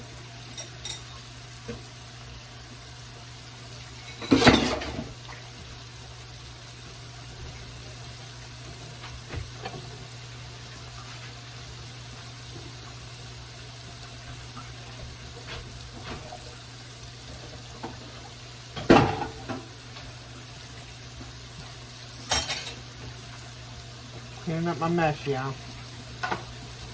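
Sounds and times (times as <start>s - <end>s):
food sizzling in hot oil: 0.0s - 26.9s.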